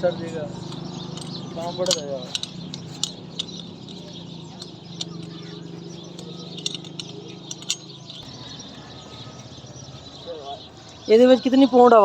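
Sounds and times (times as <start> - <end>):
faint birdsong: 0.0 - 12.0
sharp metallic clinks: 0.0 - 12.0.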